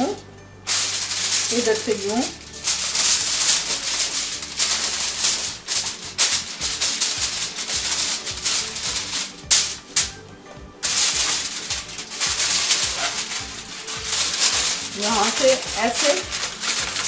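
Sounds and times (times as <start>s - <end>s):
aluminium foil crinkling: 0.0s - 10.2s, 10.8s - 17.0s
sharp foil crackles: 0.0s - 10.2s, 10.8s - 17.0s.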